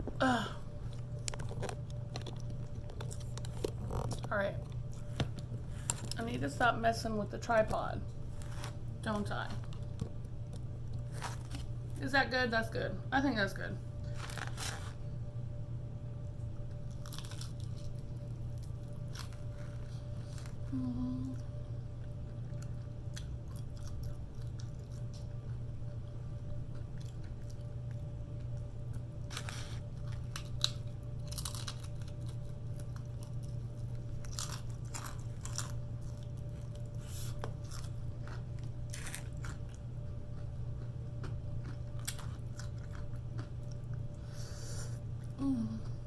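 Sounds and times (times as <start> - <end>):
steady low hum: 0.0 - 46.0
chewing and crunching food: 0.7 - 6.6, 7.6 - 12.0, 14.0 - 15.1, 16.5 - 46.0.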